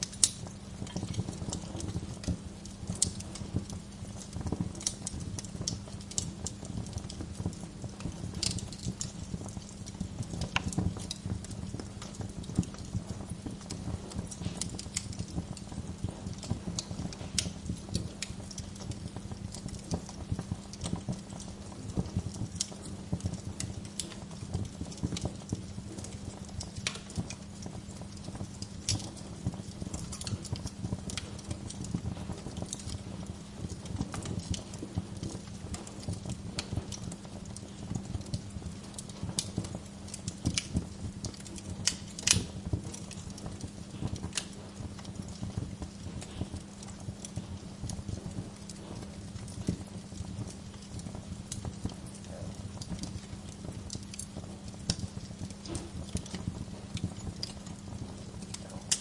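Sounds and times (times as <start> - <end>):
sharp pops of fire: 0.0 - 59.0
wood fire crackling: 0.0 - 59.0.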